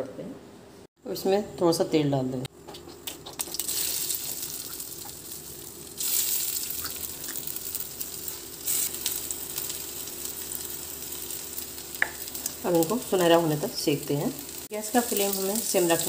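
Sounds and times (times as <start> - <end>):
patties sizzling in oil: 3.0 - 16.0.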